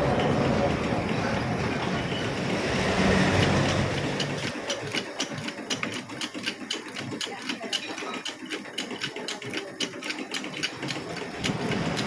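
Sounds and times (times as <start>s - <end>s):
workshop machinery running: 0.0s - 12.0s.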